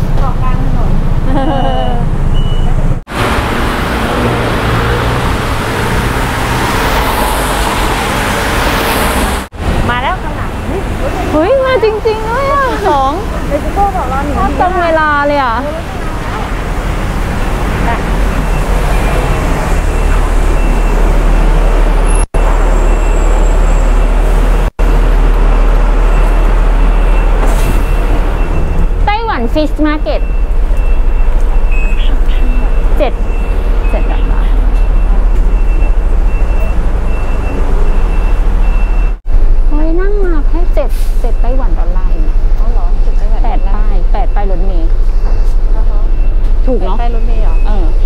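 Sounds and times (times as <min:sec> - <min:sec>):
city road traffic rumble: 0:00.0 - 0:48.0.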